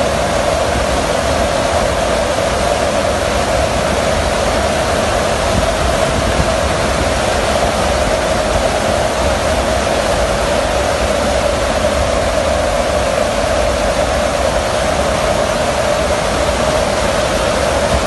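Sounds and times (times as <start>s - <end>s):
aircraft engine drone: 0.0s - 18.0s
mid-pitched hum: 0.0s - 18.0s
rushing airflow: 0.0s - 18.0s.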